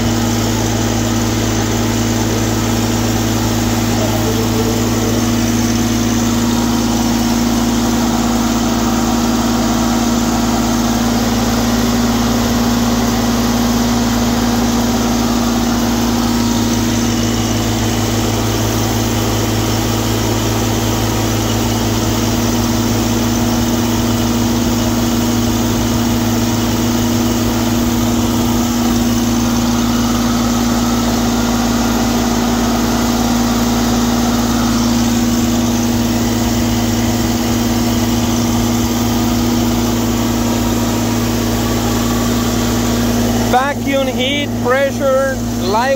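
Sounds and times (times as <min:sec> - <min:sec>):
engine humming: 0:00.0 - 0:45.9.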